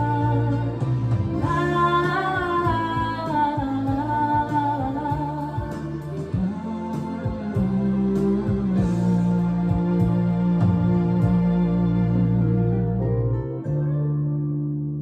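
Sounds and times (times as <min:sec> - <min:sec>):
woman singing wordless melody: 0:00.0 - 0:12.8
ballad backing music: 0:00.0 - 0:15.0
steady bass line: 0:00.0 - 0:15.0.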